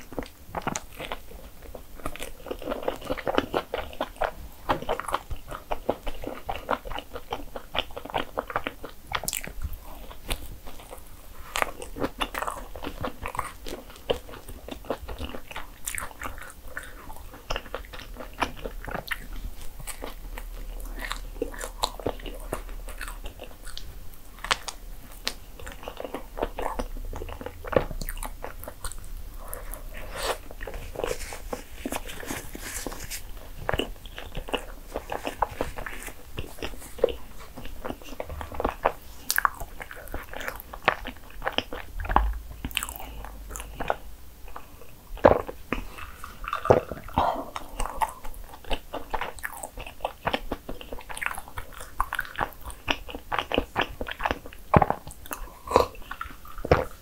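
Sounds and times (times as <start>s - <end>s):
chewing and biting food: 0.0s - 57.0s.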